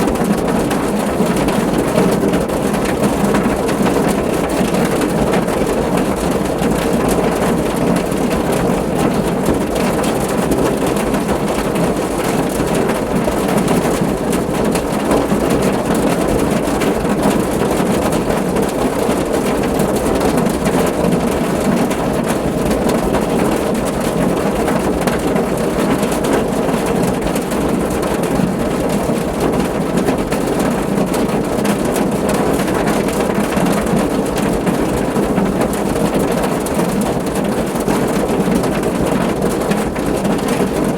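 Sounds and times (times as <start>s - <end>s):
rain drumming on car roof: 0.0s - 40.9s.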